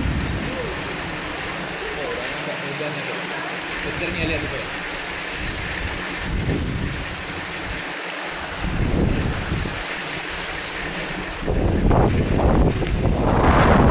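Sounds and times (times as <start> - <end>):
wind buffeting microphone: 0.0 - 7.8, 8.4 - 13.9
heavy rain hissing: 0.0 - 13.9.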